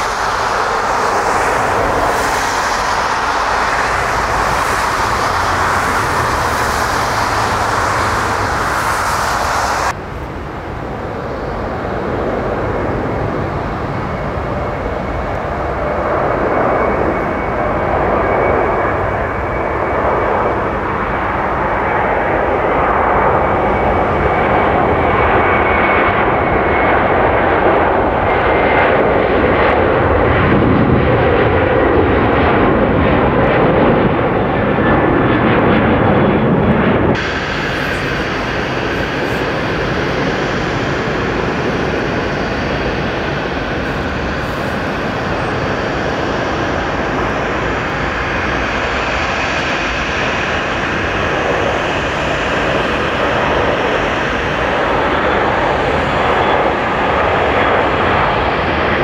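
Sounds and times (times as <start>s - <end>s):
jet engines at takeoff power: 0.0s - 59.0s
steady jet engine noise: 0.0s - 59.0s.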